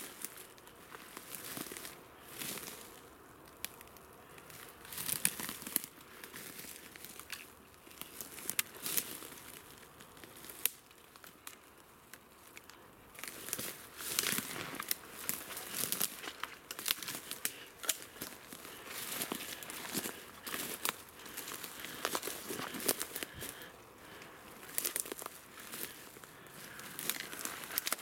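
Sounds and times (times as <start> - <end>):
footsteps in dry leaves and twigs: 0.0 - 28.0.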